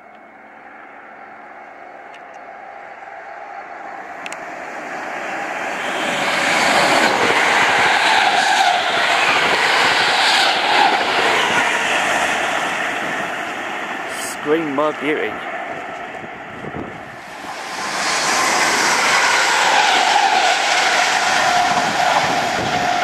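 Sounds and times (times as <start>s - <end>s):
electric train passing at speed: 0.0s - 23.0s.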